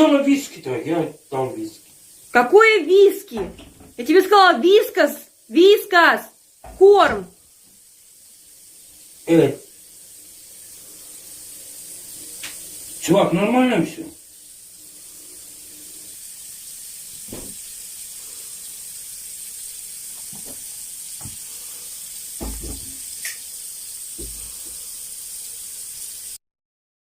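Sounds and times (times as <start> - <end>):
steady hiss: 0.0 - 26.4.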